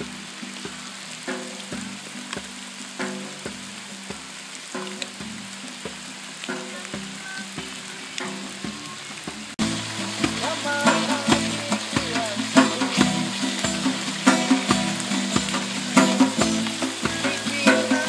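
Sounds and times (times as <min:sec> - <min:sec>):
acoustic guitar strumming: 0:00.0 - 0:18.0
hand drum beating: 0:00.0 - 0:18.0.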